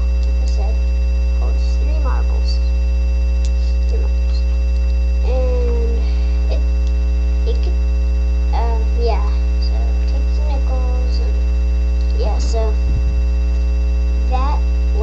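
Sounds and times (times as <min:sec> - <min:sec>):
electrical mains hum: 0:00.0 - 0:15.0
steady tones: 0:00.0 - 0:15.0.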